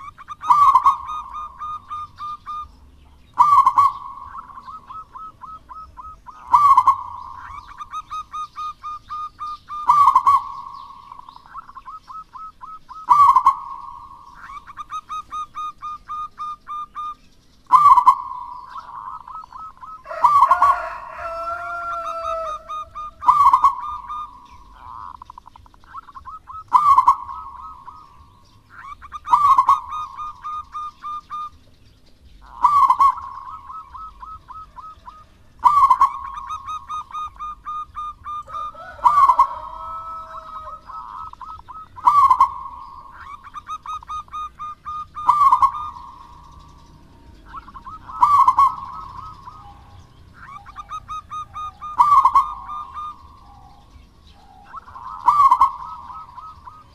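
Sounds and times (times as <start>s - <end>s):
dove cooing: 0.0s - 31.6s, 32.4s - 56.9s.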